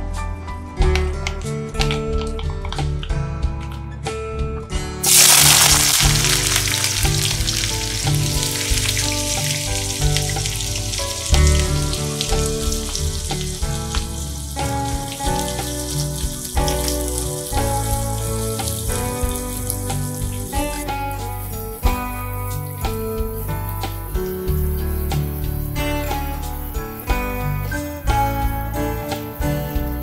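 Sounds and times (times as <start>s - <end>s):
background music: 0.0s - 30.0s
onions sizzling in hot oil: 5.0s - 30.0s.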